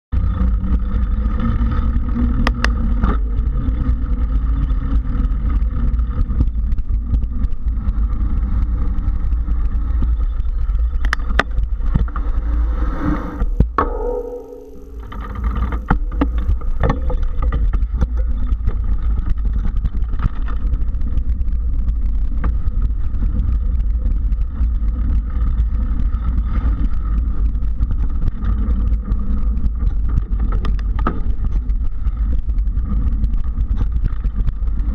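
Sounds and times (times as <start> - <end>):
tyres rumbling on trail: 0.1 - 34.9
bike clicks and rattles: 0.2 - 12.8, 13.4 - 34.9.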